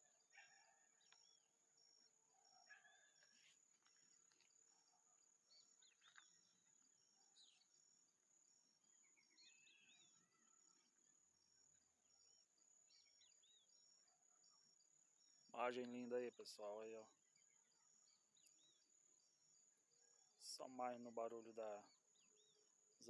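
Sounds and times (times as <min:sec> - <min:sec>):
bird calls and chirps: 0:00.0 - 0:23.0.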